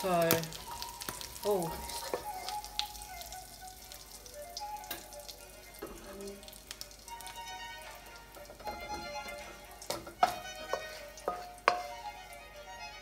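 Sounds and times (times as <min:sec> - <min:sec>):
oil crackling in a wok: 0:00.0 - 0:13.0
soft background music: 0:00.0 - 0:13.0.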